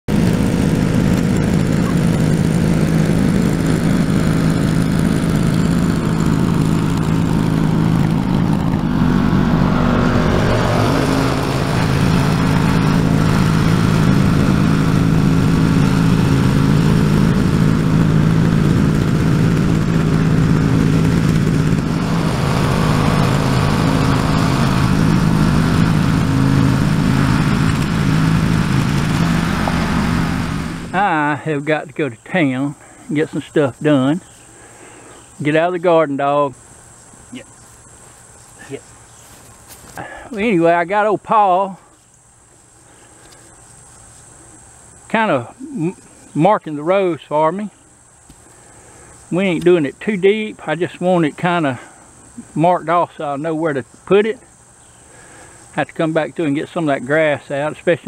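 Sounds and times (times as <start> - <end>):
garden tiller engine running: 0.1 - 58.0.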